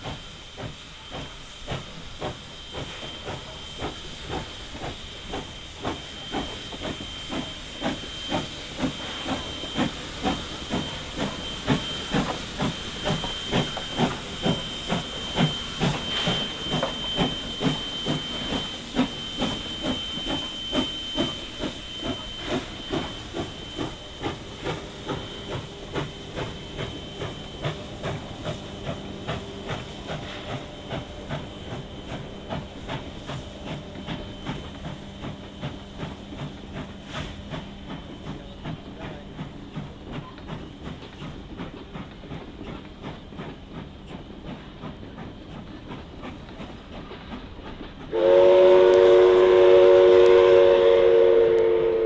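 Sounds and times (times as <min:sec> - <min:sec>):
steam hissing: 0:00.0 - 0:52.0
steam locomotive exhaust chuffs: 0:00.0 - 0:52.0.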